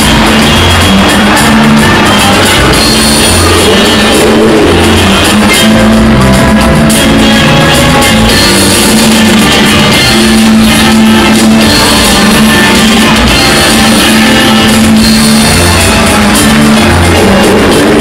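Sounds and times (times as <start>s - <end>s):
loud music with low notes: 0.0s - 18.0s.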